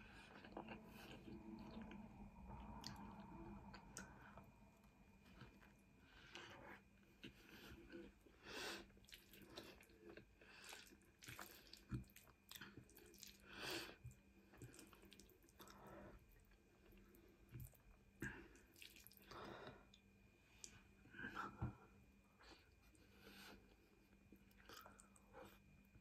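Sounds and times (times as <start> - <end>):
person chewing wetly: 0.0 - 20.0, 24.4 - 25.7.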